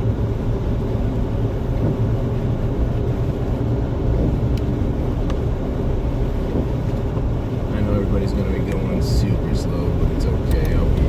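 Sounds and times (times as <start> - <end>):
car driving through snow: 0.0 - 11.0.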